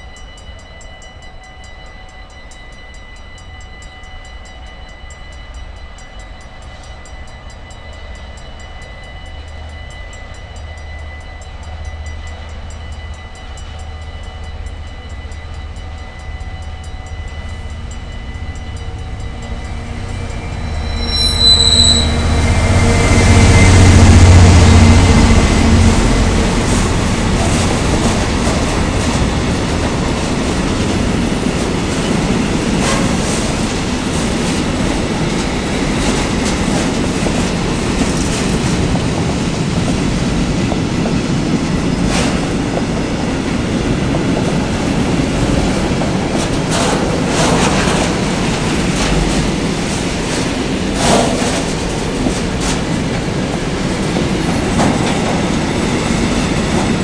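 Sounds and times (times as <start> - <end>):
diesel locomotive engine: 0.0 - 57.0
train wheels rumbling on rail: 0.0 - 57.0.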